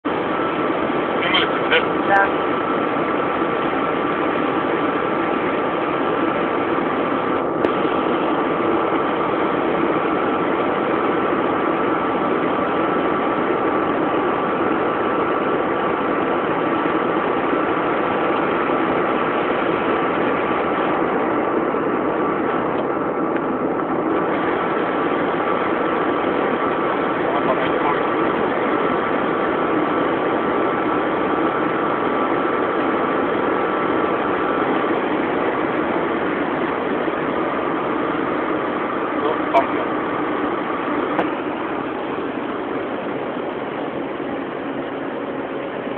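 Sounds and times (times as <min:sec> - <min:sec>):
car engine and road noise: 0:00.0 - 0:45.9
constant high whine: 0:00.0 - 0:45.9.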